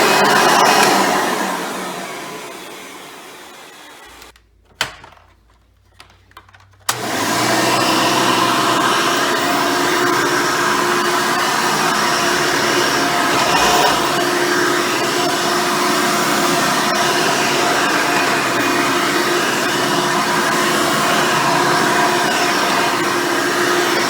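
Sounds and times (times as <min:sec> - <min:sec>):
upright vacuum cleaner running: 0:00.0 - 0:04.4, 0:06.9 - 0:24.0.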